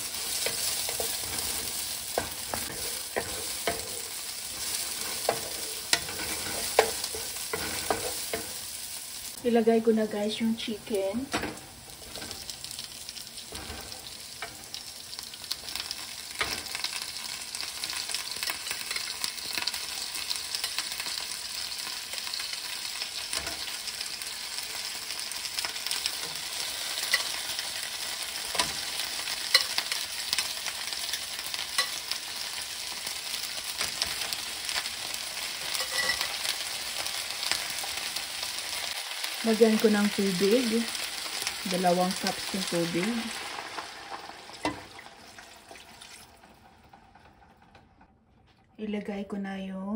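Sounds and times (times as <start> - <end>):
meat sizzling in a frying pan: 0.0 - 46.6.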